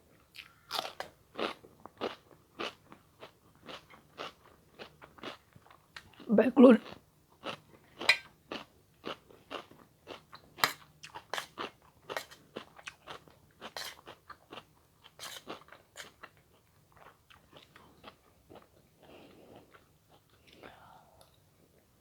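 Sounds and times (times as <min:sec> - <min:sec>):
person chewing crunchy food: 0:00.4 - 0:20.7.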